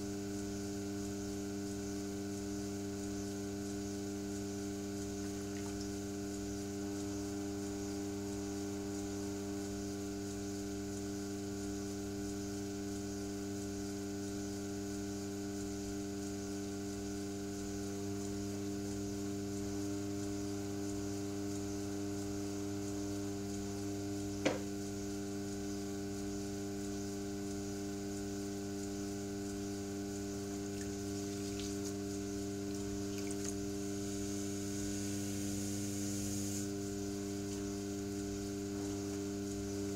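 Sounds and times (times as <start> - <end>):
potter's wheel humming: 0.0 - 39.9.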